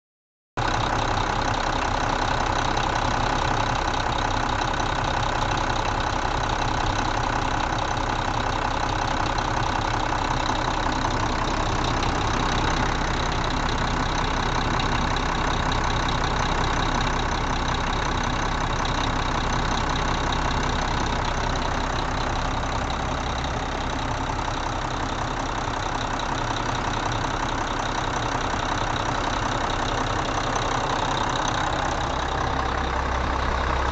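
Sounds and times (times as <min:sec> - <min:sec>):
diesel truck engine idling: 0:00.6 - 0:33.9.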